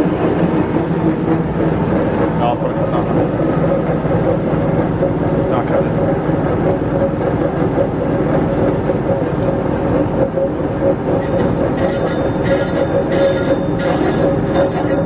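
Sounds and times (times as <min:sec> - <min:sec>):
metal lathe whining and rumbling: 0:00.0 - 0:15.0.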